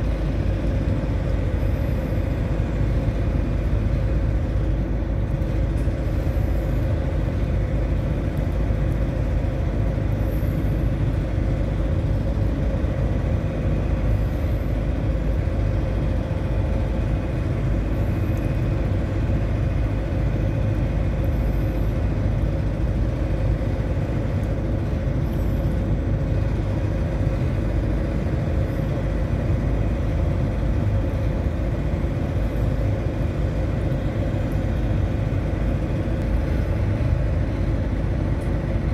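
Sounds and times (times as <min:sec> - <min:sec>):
ship engine rumble: 0:00.0 - 0:38.9.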